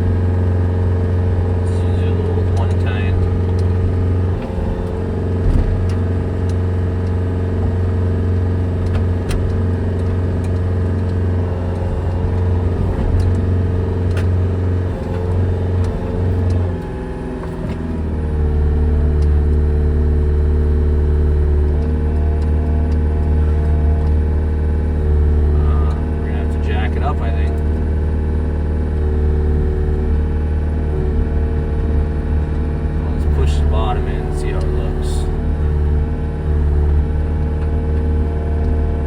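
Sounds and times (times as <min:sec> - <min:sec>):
farm machinery engine running: 0:00.0 - 0:39.0.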